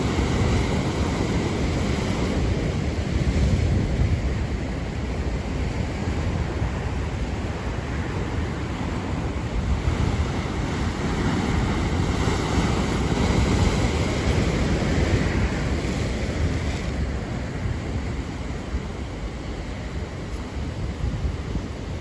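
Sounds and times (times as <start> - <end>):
waves breaking: 0.0 - 22.0
wind rumble on microphone: 0.0 - 22.0.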